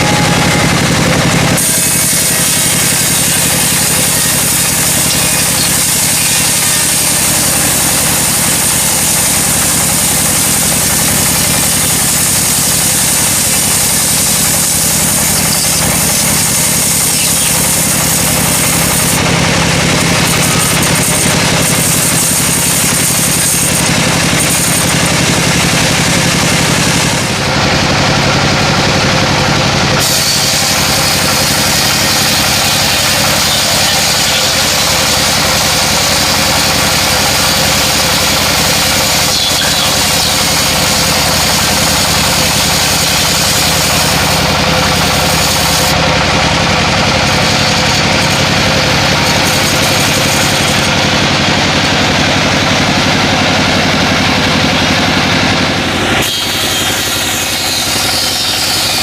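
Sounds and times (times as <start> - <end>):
saw cutting: 0.0 - 59.0
sawmill engine drone: 0.0 - 59.0.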